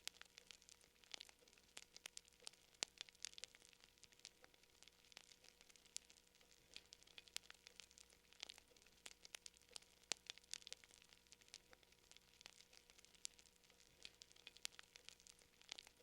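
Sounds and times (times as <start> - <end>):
faint steady hum: 0.0 - 16.0
fire crackling: 0.0 - 16.0.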